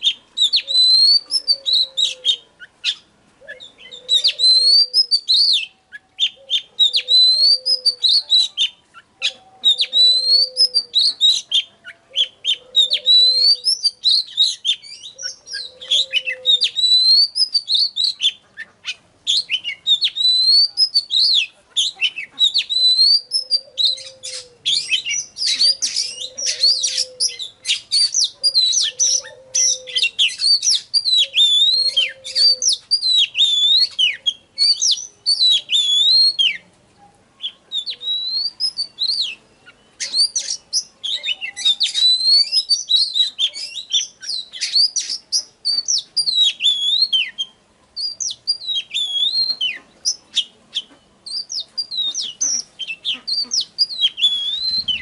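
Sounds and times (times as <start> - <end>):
bird singing whistles and trills: 0.0 - 36.7, 37.4 - 55.0.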